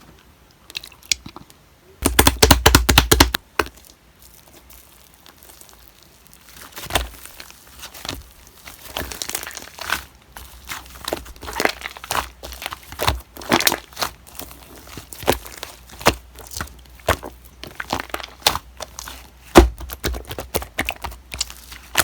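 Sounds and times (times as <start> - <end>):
slime crackling and popping: 2.0 - 22.0.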